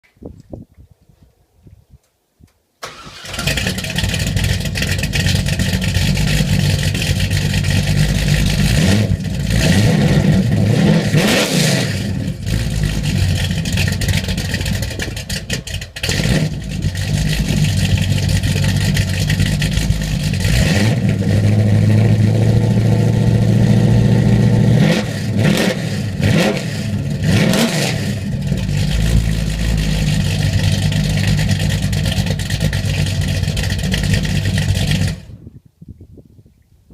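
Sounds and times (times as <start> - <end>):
car engine starting and revving: 2.8 - 35.4.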